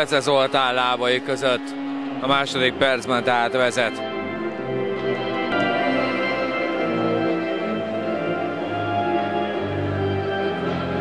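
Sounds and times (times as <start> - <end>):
music of long held notes: 0.0 - 11.0.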